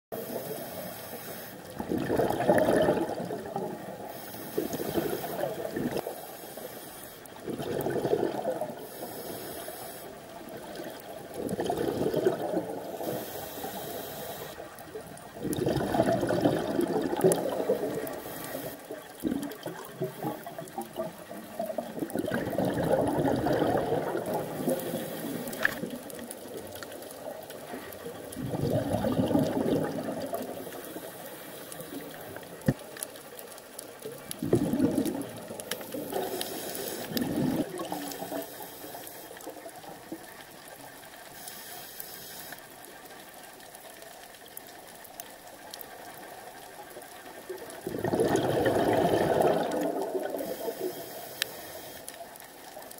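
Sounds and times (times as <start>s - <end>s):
underwater air bubbling: 0.2s - 42.5s, 45.9s - 52.9s.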